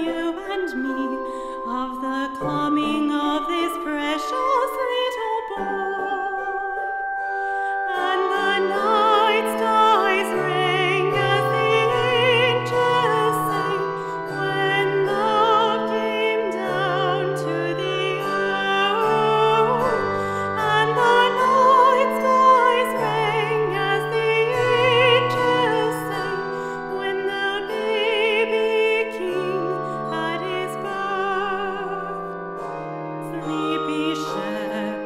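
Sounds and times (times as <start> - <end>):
woman singing with vibrato: 0.0 - 32.4, 33.2 - 35.0
handbell choir ringing chords: 0.0 - 35.0.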